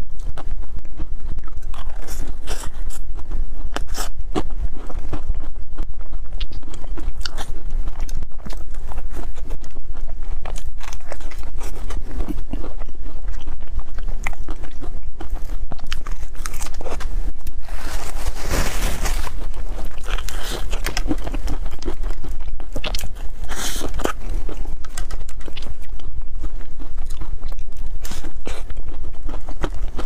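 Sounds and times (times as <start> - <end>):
chewing crunchy food: 0.0 - 30.0.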